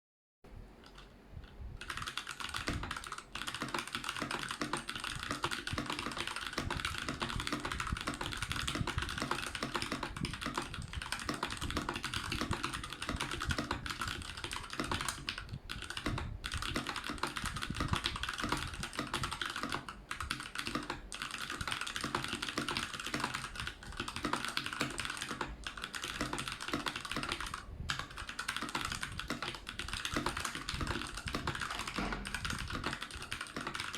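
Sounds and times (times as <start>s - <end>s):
mechanical keyboard typing: 0.8s - 33.9s.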